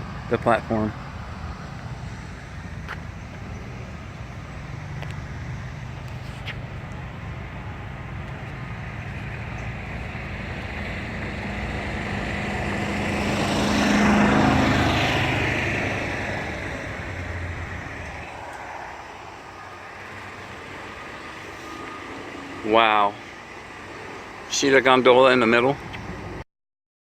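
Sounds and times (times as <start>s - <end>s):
vehicle engine passing by: 0.0s - 26.4s.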